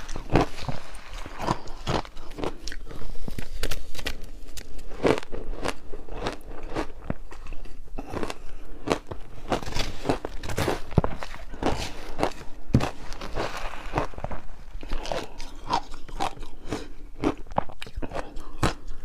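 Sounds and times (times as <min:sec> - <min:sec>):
ice crunching being chewed: 0:00.0 - 0:19.0.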